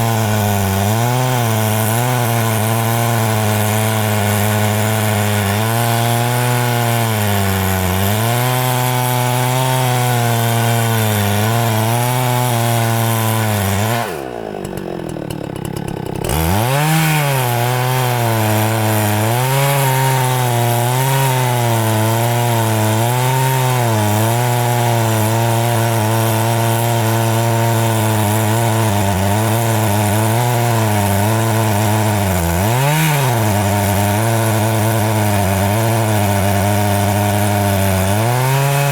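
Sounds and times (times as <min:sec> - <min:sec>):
chainsaw cutting tree trunk: 0:00.0 - 0:38.9.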